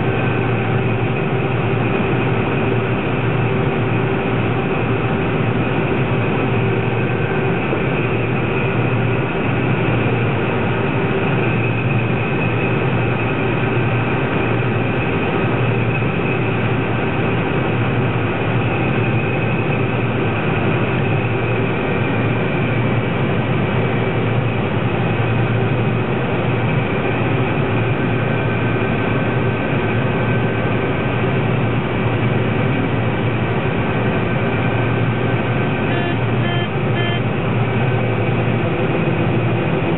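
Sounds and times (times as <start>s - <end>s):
combine harvester running: 0.0s - 39.9s
steady machine whining tones: 0.0s - 39.9s.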